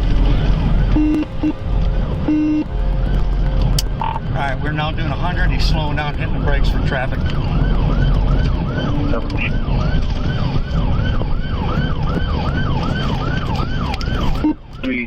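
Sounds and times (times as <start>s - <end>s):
low road rumble: 0.0s - 15.0s
police siren yelping: 0.0s - 15.0s.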